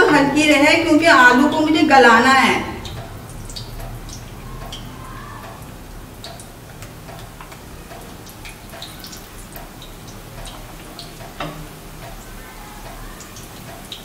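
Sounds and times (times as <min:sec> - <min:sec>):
oil bubbling and crackling: 0:02.7 - 0:14.0.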